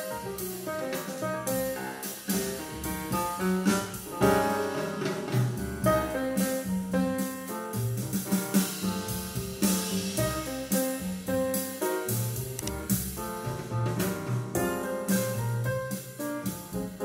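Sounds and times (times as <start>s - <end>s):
instrumental piano and drums music: 0.0s - 17.0s.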